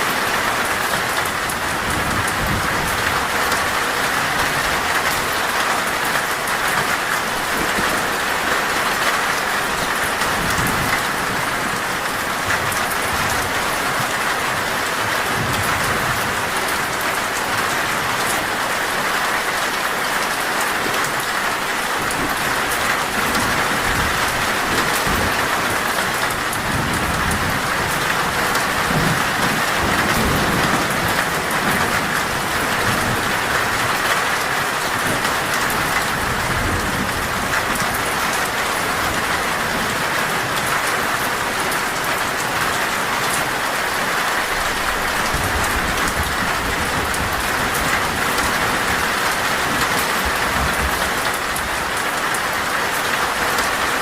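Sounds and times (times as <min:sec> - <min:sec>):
rain drumming on metal roof: 0:00.0 - 0:54.0.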